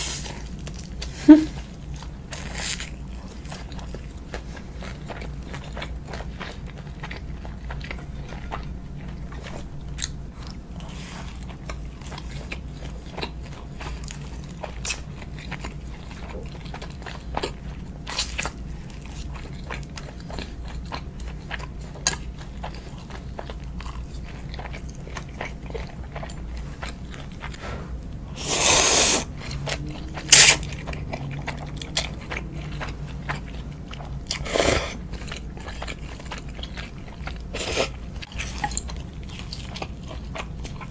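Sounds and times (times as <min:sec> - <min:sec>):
person chewing: 0:00.0 - 0:40.9
steady low hum: 0:00.0 - 0:40.9.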